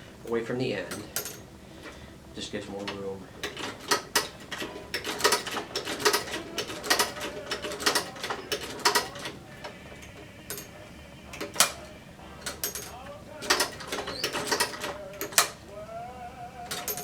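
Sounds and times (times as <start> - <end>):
sewing machine stitching: 0.0 - 17.0.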